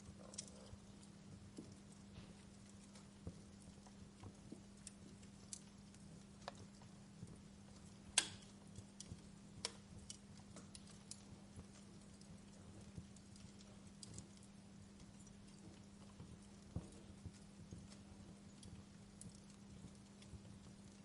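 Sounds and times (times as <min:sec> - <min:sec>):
fireplace crackling: 0:00.0 - 0:21.0
low steady hum: 0:00.0 - 0:21.0.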